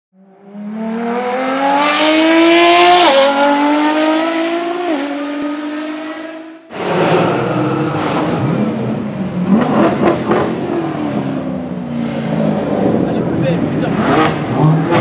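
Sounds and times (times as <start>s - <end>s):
car engine accelerating: 0.3s - 15.0s.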